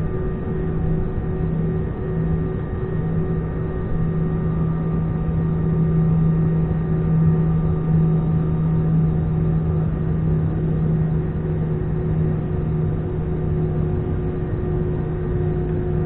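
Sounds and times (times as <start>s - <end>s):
jet engine cabin drone: 0.0s - 16.0s.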